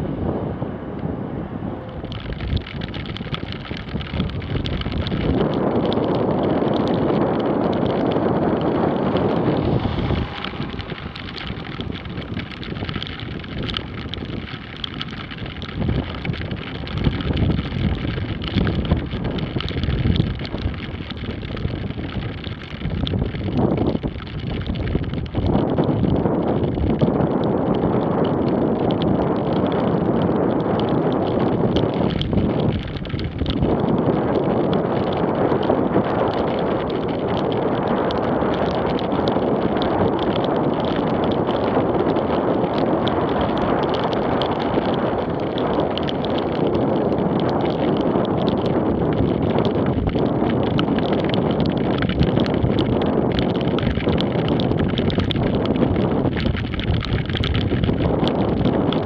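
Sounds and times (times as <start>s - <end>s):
wind on microphone: 0.0s - 59.0s.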